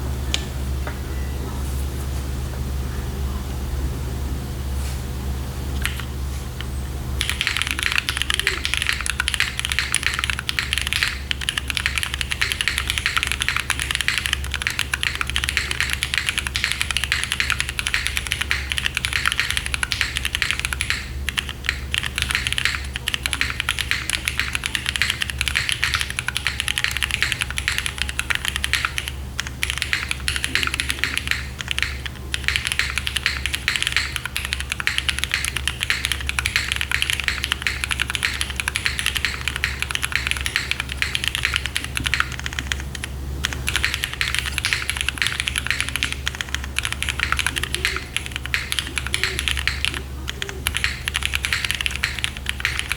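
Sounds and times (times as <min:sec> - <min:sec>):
steady low hum: 0:00.0 - 0:52.9
mechanical keyboard typing: 0:05.8 - 0:52.9.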